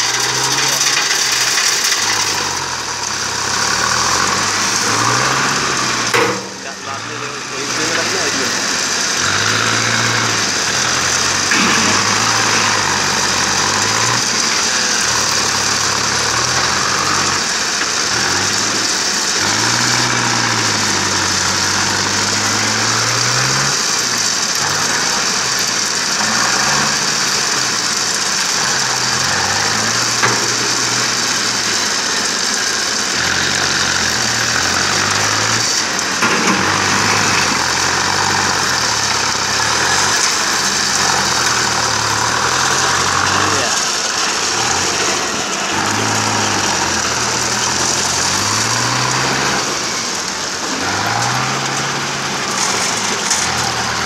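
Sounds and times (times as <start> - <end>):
tractor diesel engine revving: 0.0 - 54.0.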